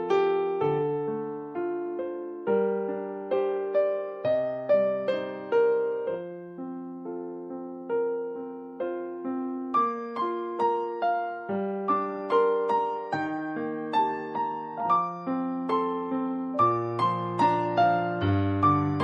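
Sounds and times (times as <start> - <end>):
gentle solo piano: 0.0 - 19.0.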